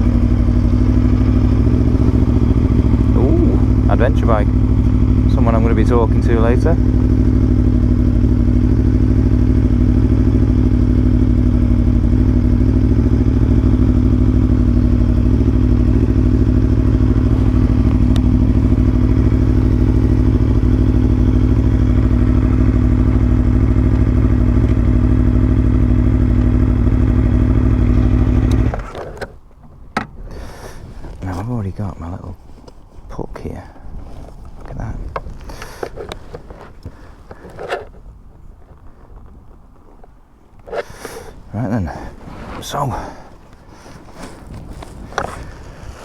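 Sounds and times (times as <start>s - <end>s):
motorcycle engine idling: 0.0s - 29.5s, 33.8s - 42.1s, 42.8s - 46.0s.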